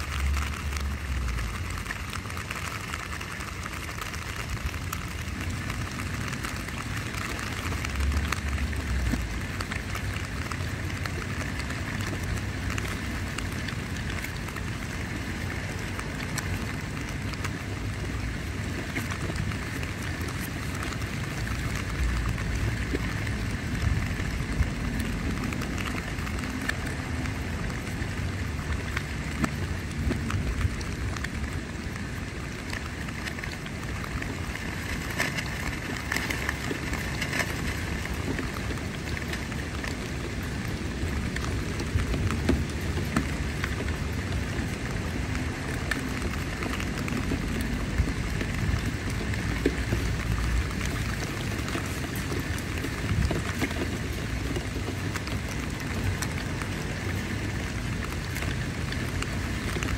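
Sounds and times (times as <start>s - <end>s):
rain on tent fabric: 0.0s - 59.9s.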